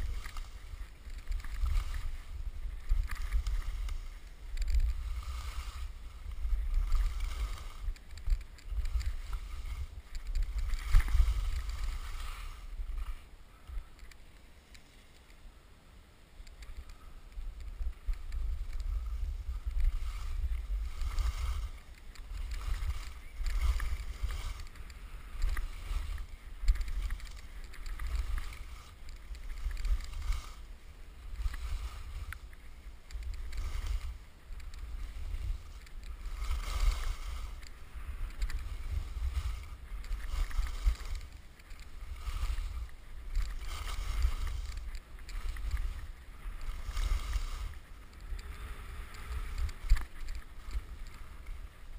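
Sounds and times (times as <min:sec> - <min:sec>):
wind buffeting microphone: 0:00.0 - 0:13.9, 0:17.4 - 0:51.9
skis scraping over snow: 0:00.0 - 0:51.9.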